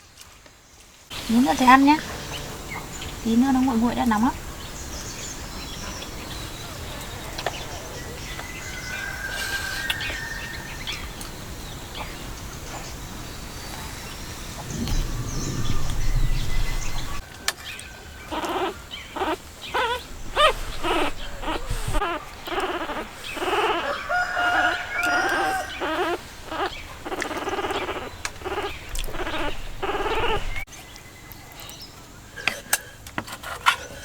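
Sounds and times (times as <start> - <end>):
animals crying: 1.3 - 30.7.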